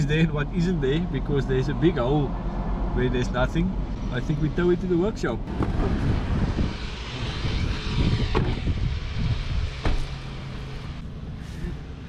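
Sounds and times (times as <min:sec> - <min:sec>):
vehicle rumbling over rough ground: 0:00.0 - 0:12.0.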